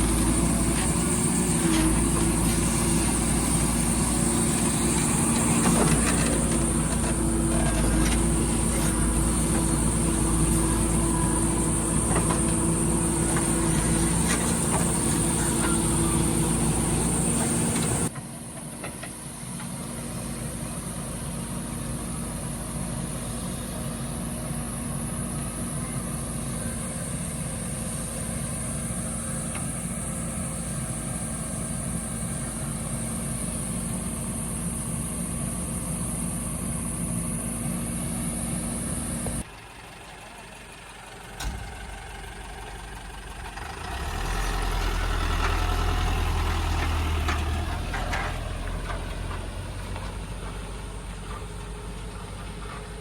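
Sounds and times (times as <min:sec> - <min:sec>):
deep engine rumble: 0:00.0 - 0:53.0
heavy diesel engine running: 0:00.0 - 0:53.0.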